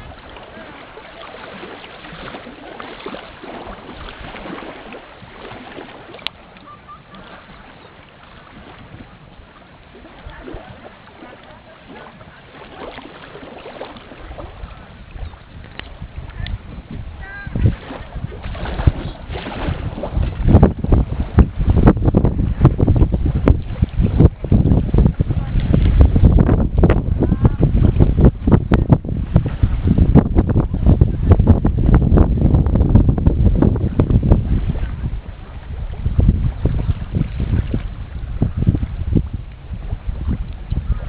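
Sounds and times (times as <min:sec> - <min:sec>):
wind rumble on microphone: 0:00.0 - 0:41.0.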